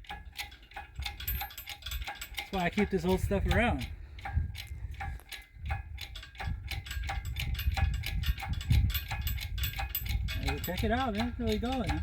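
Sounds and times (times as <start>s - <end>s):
hoist mechanism clicking: 0.0s - 12.0s
steady low rumble: 0.0s - 12.0s.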